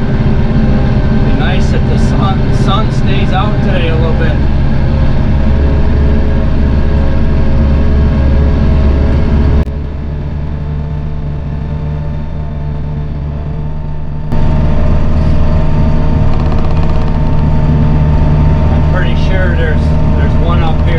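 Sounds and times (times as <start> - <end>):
diesel tractor engine droning: 0.0 - 20.9.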